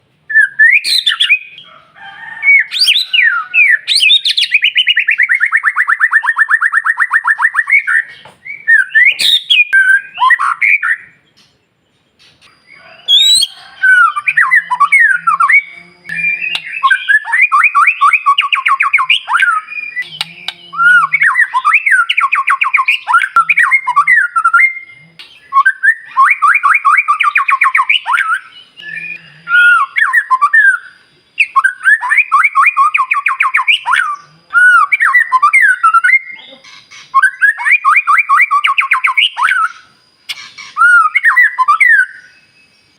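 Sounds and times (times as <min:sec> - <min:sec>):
songbird singing loudly: 0:00.3 - 0:42.9.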